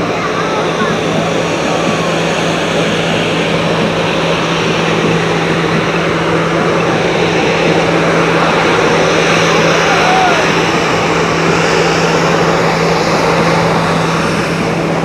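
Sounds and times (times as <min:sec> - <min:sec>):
low hum: 0:00.0 - 0:15.0
vans driving slowly past: 0:00.0 - 0:15.0.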